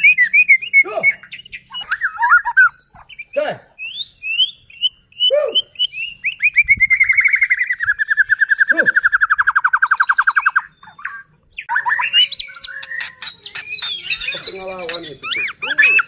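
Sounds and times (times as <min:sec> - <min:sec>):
songbird singing with fast trill: 0:00.0 - 0:16.0.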